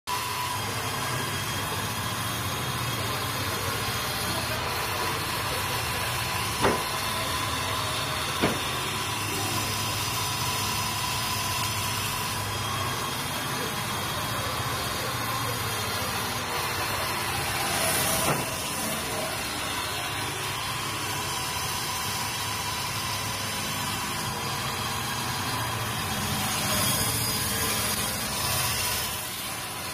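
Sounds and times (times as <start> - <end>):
log saw cutting: 0.2 - 29.9.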